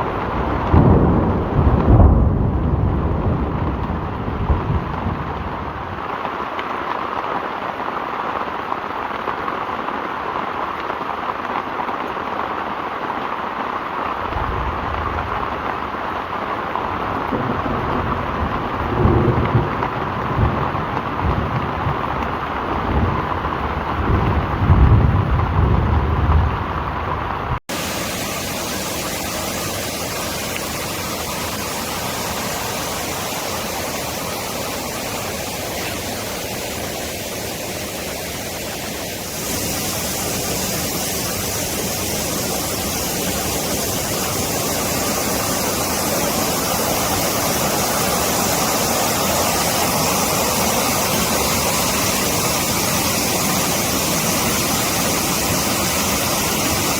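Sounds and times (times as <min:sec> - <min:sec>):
thunder rumbling: 0:00.0 - 0:06.2, 0:14.2 - 0:56.9
rushing water: 0:00.0 - 0:24.0, 0:27.6 - 0:56.9
rain falling: 0:00.0 - 0:56.9.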